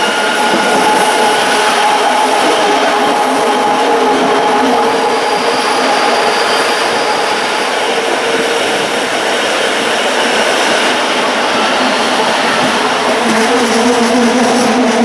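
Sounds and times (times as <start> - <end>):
train wheels rolling on track: 0.0 - 15.0.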